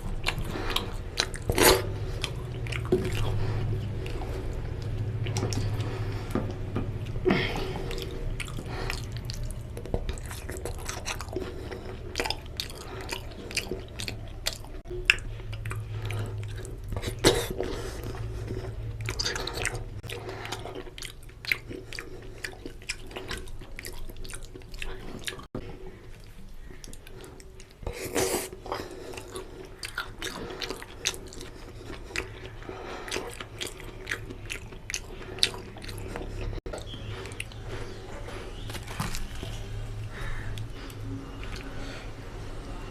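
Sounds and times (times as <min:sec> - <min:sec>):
low steady hum: 0:00.0 - 0:42.9
person chewing food: 0:00.0 - 0:42.9.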